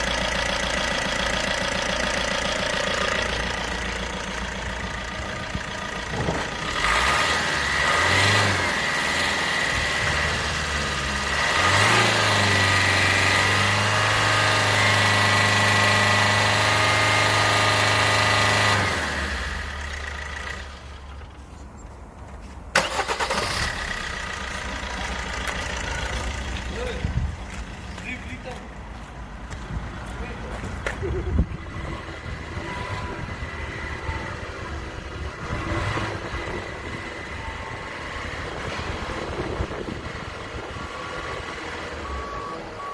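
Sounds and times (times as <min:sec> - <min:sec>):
diesel engine revving: 0:00.0 - 0:21.3, 0:22.7 - 0:28.1, 0:30.6 - 0:42.9.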